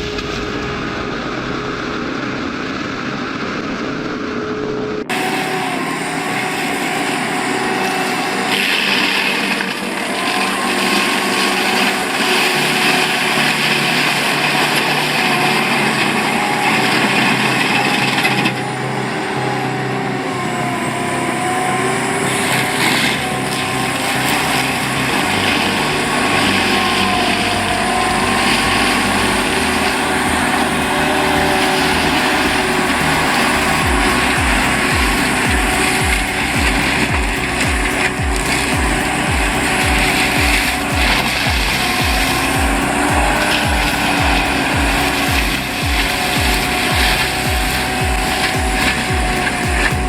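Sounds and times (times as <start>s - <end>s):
logging machine engines running: 0.0s - 50.0s.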